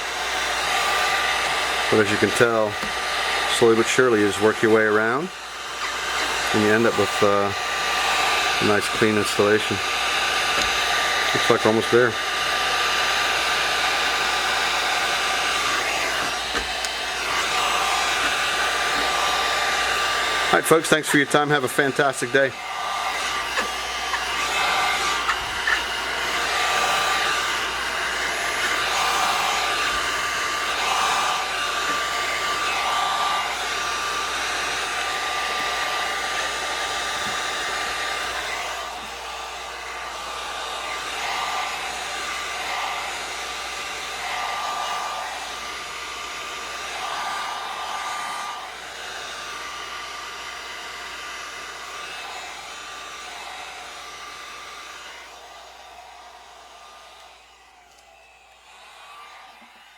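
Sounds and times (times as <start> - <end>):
hot-air blower running: 0.0 - 59.9.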